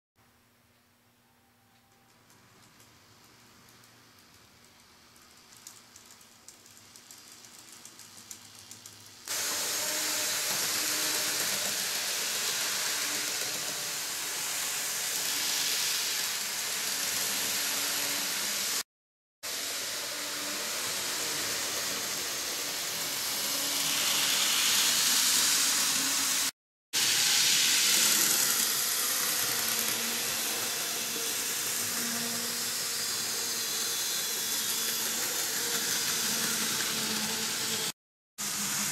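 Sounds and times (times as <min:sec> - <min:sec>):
model train running on track: 0:03.6 - 0:18.8, 0:19.5 - 0:38.9.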